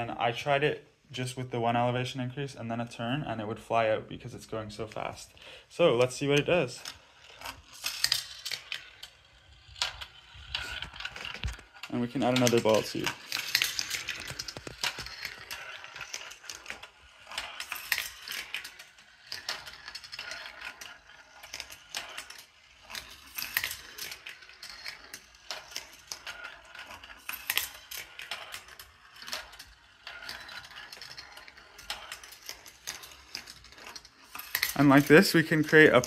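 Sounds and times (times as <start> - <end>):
marbles rolling on metal tracks: 0.0 - 0.8, 1.6 - 36.0
marbles clicking and rattling: 4.7 - 36.0.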